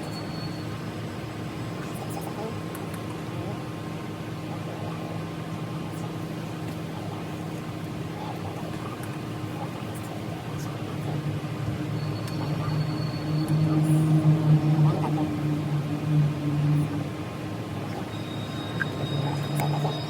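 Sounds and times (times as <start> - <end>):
machine hum with low drone: 0.0 - 20.0.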